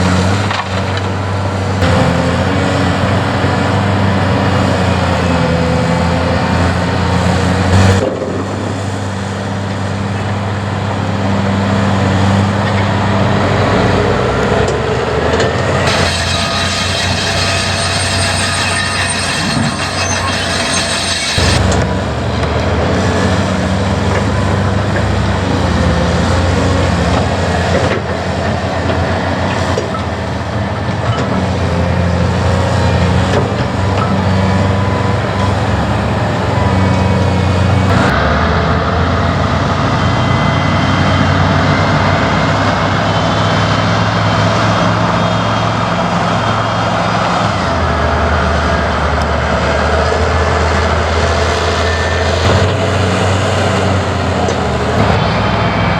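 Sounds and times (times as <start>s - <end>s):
diesel engine running: 0.0s - 55.9s
thin engine whine: 0.0s - 55.9s.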